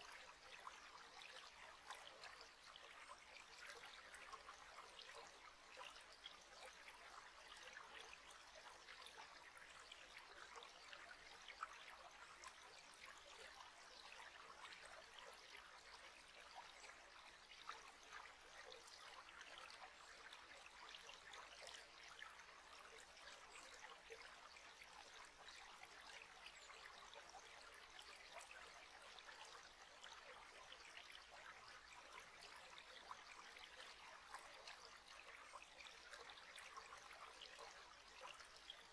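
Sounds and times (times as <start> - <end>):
trickle of flowing water: 0.0 - 38.9.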